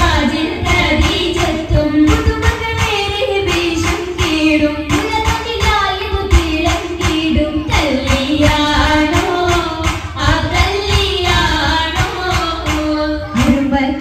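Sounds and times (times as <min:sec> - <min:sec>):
high voices singing: 0:00.0 - 0:14.0
steady percussive beat: 0:00.0 - 0:14.0.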